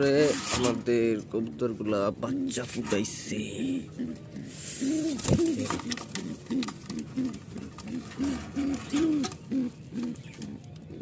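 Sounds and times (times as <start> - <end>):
pigeons cooing: 1.7 - 11.0.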